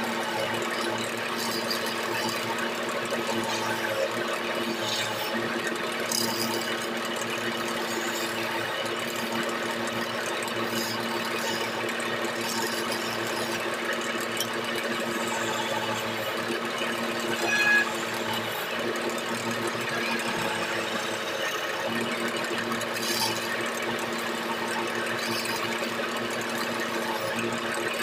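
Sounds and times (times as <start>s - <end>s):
chisel scraping spinning wood: 0.0s - 28.0s
wood lathe motor hum: 0.0s - 28.0s.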